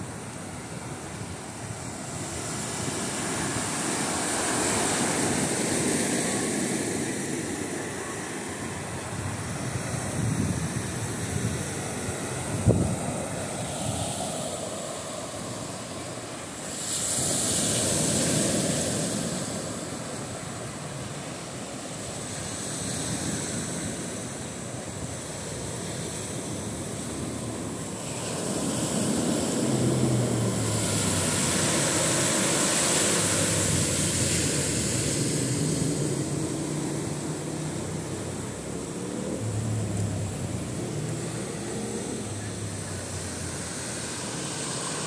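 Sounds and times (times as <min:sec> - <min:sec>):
small waves washing on beach: 0:00.0 - 0:45.0.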